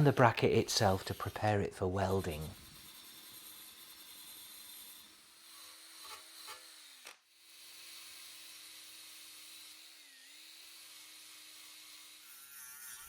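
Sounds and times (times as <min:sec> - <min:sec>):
rotary tool grinding metal: 0:00.0 - 0:13.0.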